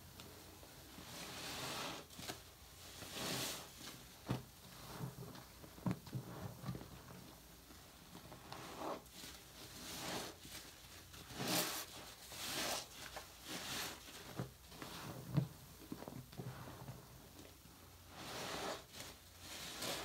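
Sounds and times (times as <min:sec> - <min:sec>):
sponge squelching in soapy water: 0:01.0 - 0:07.5, 0:08.1 - 0:20.0.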